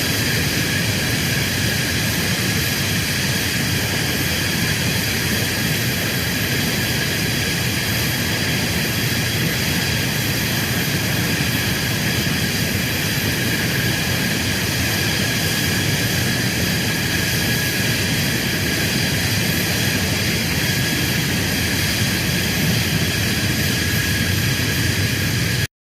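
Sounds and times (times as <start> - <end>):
jet engine whine and rumble: 0.0 - 25.7.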